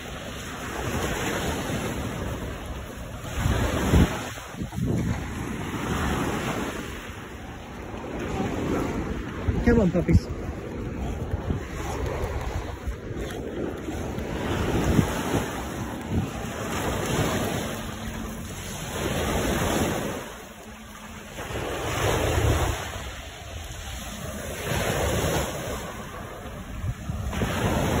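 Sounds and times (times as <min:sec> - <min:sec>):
waves washing up shore: 0:00.0 - 0:28.0
wind buffeting microphone: 0:00.0 - 0:28.0.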